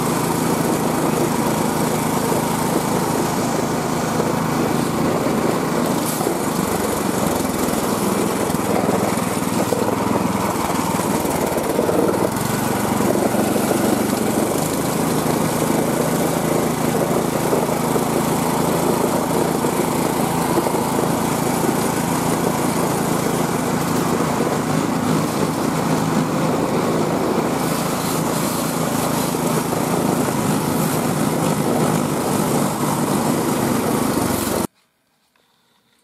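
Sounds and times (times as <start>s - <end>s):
small engine running: 0.0s - 34.7s.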